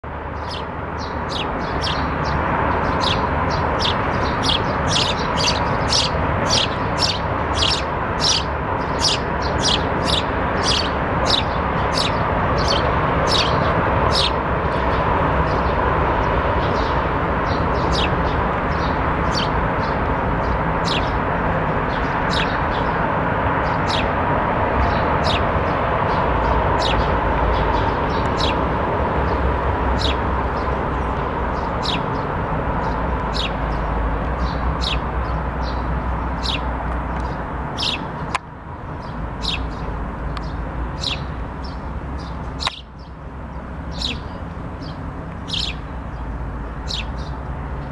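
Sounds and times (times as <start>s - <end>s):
sparrow chirping: 0.1s - 47.9s
steady background hum: 0.1s - 47.9s.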